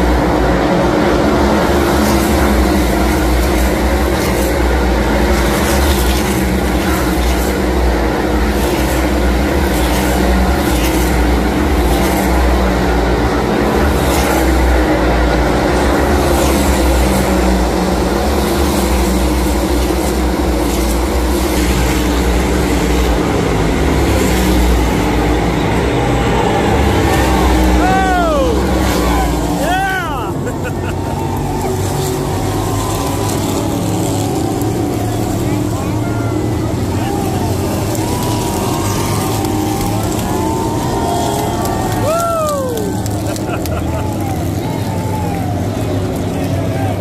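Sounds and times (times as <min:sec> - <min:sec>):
race car engines droning: 0:00.0 - 0:47.0
race car passing by: 0:00.0 - 0:47.0.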